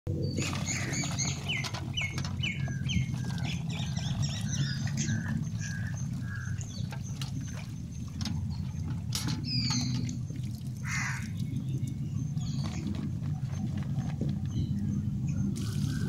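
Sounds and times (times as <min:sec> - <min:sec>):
birds chirping: 0:00.1 - 0:16.0
steady low hum: 0:00.1 - 0:16.0.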